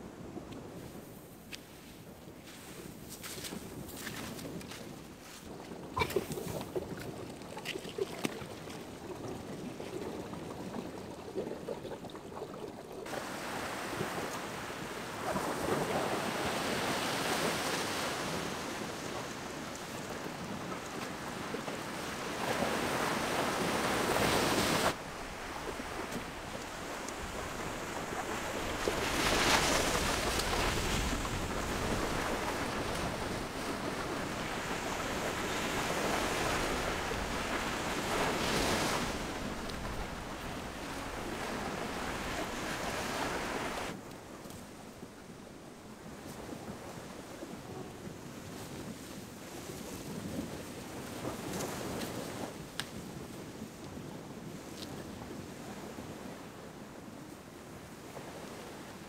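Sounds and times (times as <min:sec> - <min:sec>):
wind on microphone: 0:00.0 - 0:59.0
sea waves washing onto shore: 0:00.7 - 0:53.3.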